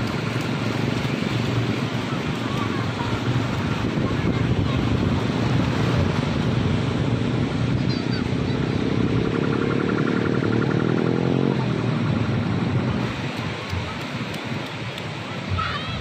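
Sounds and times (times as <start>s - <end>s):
surf washing up beach: 0.0s - 10.4s, 11.5s - 16.0s.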